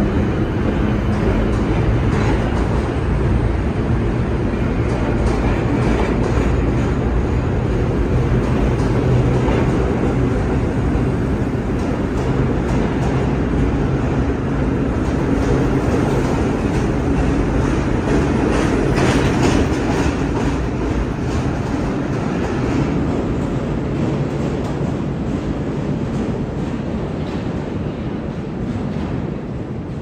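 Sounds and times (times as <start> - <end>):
train wheels clattering over rail joints: 0.5 - 3.4, 4.6 - 29.8.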